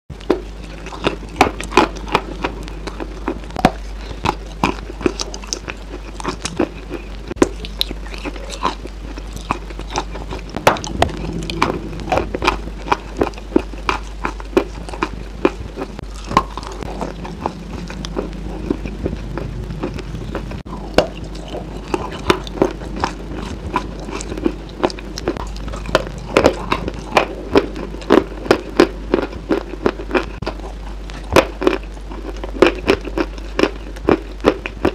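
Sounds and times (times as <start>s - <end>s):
steady low hum: 0.1s - 34.9s
crunchy chewing: 0.2s - 34.9s.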